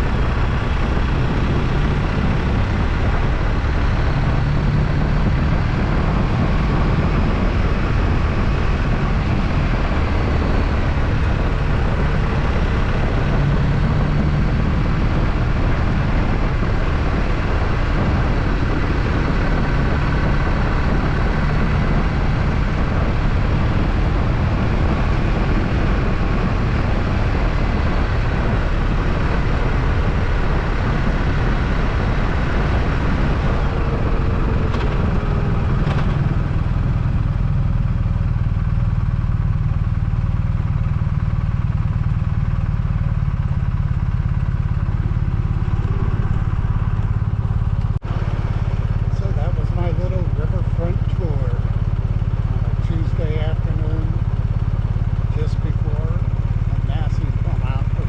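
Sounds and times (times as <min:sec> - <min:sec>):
motorcycle engine drone: 0:00.0 - 0:58.0
wind noise: 0:00.0 - 0:58.0.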